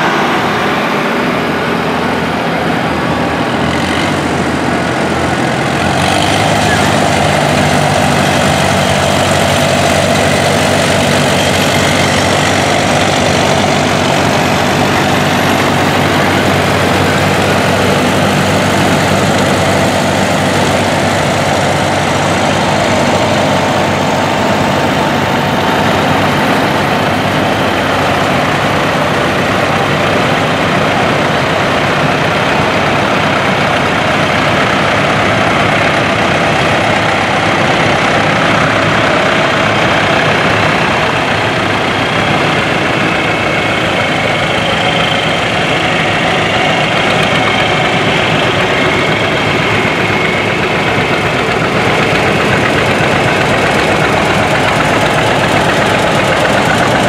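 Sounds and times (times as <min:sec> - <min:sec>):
tractor engines running: 0:00.0 - 0:57.0.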